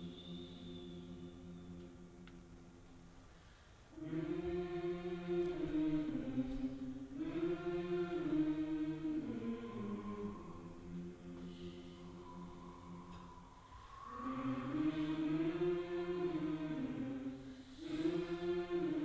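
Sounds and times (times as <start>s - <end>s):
choir singing held notes: 0.0s - 3.1s, 3.9s - 19.0s.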